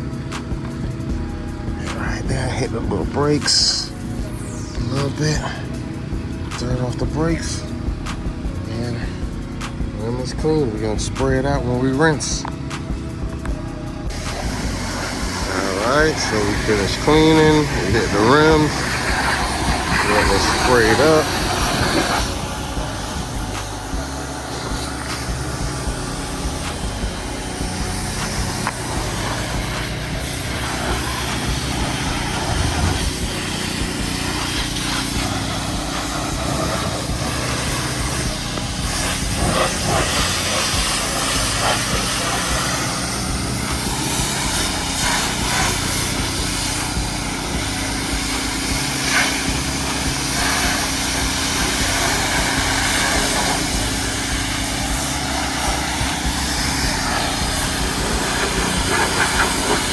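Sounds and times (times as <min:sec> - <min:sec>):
water spray hissing: 0:00.0 - 0:13.5, 0:14.1 - 0:59.9
pump motor humming: 0:00.0 - 0:59.9.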